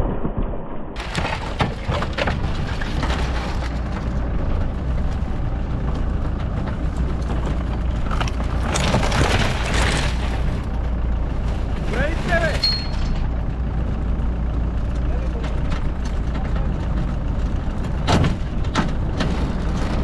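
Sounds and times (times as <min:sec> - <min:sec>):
outdoor rushing noise: 0:00.0 - 0:20.0
vehicle engine droning: 0:01.0 - 0:20.0.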